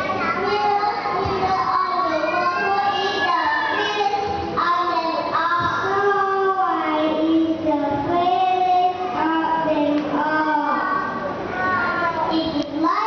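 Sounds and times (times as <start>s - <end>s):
child singing: 0.1s - 13.0s.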